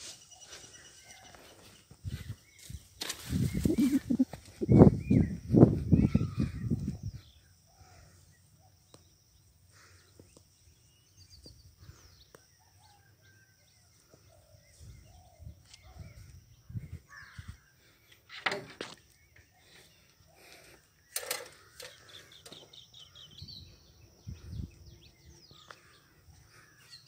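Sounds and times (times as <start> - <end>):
bird calls: 0.0 - 27.0.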